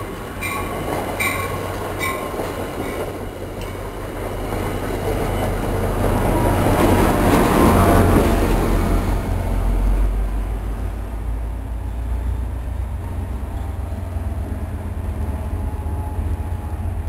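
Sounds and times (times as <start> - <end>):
approaching train low rumble: 0.0 - 17.0
train cars rushing by: 0.0 - 17.0.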